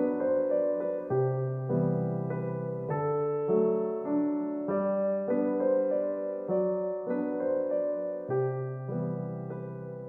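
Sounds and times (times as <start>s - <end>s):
gentle piano tune: 0.0s - 10.0s.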